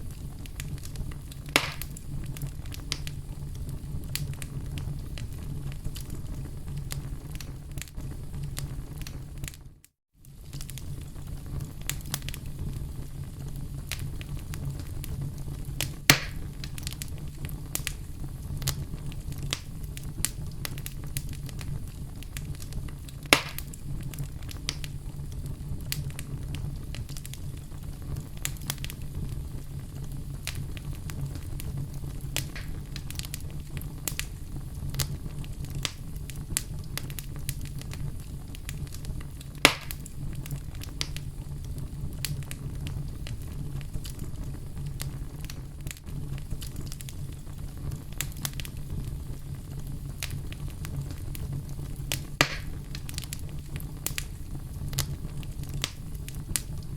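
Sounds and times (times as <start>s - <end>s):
campfire crackling: 0.0s - 56.9s
loud fire pops: 0.0s - 56.9s.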